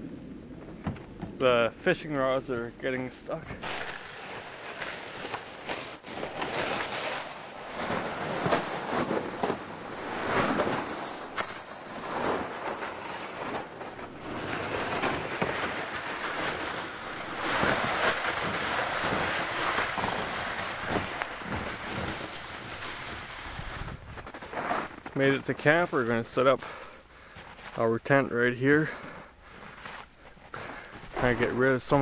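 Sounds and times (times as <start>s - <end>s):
footsteps crunching in snow: 2.8s - 28.1s, 28.8s - 32.0s
sled scraping over snow: 2.8s - 32.0s.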